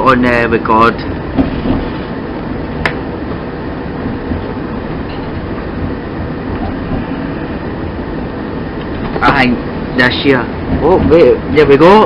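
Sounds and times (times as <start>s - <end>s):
train wheels and engine rumbling: 0.0s - 12.0s.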